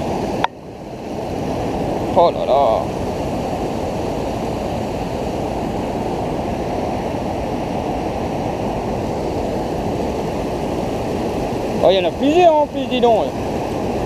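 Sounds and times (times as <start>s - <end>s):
river water rushing through rapids: 0.0s - 14.0s
whitewater churning: 0.0s - 14.0s.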